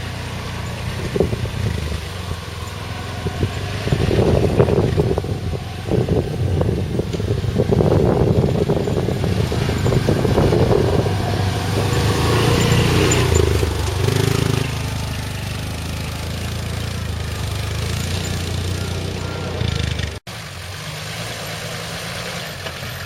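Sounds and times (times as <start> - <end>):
utility vehicle engine under load: 0.0 - 23.0.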